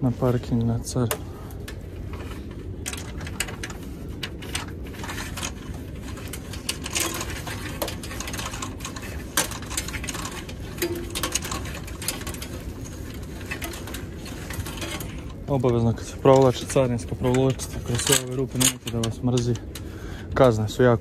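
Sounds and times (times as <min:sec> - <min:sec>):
low hum: 0:00.0 - 0:21.0
steel cable rattling through eyelets: 0:00.0 - 0:21.0.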